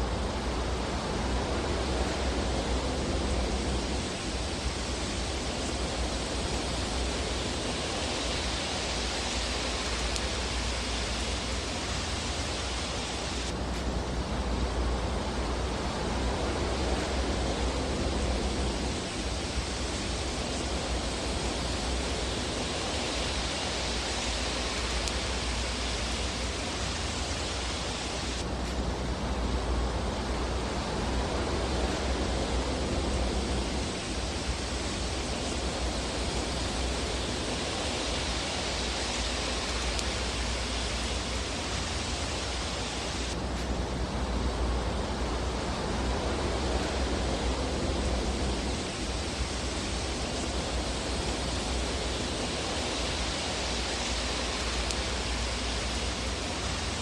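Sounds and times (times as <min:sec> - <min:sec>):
fireplace fire hissing: 0:00.0 - 0:57.0.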